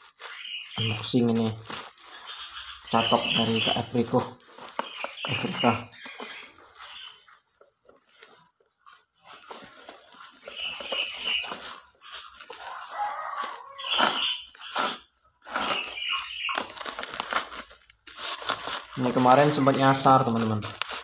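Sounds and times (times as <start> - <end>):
plastic wrapping crinkling and tearing: 0.0 - 21.0.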